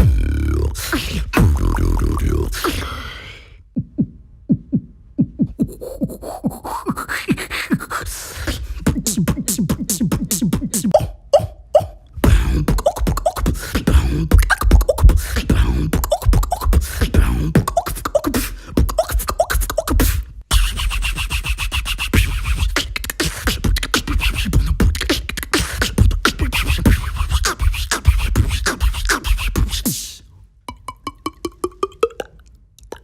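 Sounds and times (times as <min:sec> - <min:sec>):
beatboxing: 0:00.0 - 0:33.0.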